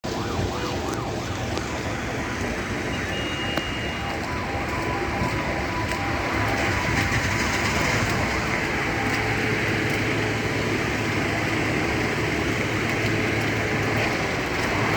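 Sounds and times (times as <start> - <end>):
city street noise: 0.0 - 14.9
emergency vehicle siren: 0.0 - 14.9.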